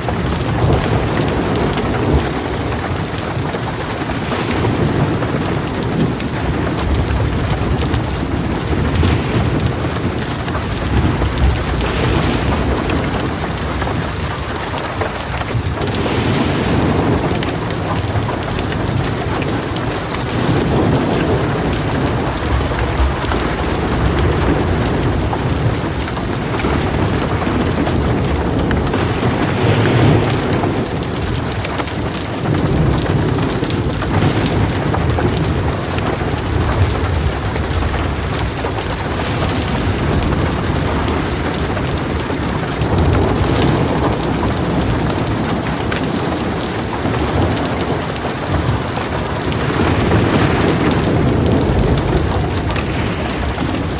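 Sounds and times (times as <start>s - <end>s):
heavy rain on metal roof: 0.0s - 53.9s
rolling thunder: 0.0s - 53.9s.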